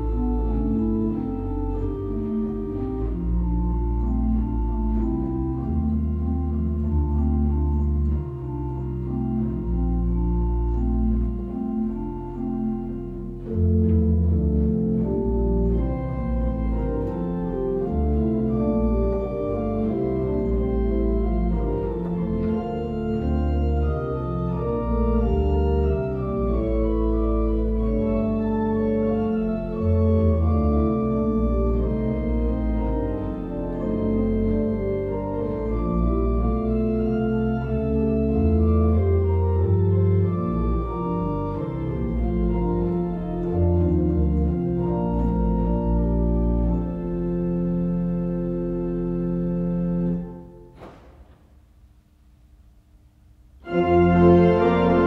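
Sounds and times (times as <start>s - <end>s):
church organ chords: 0.0s - 51.8s, 53.3s - 55.0s.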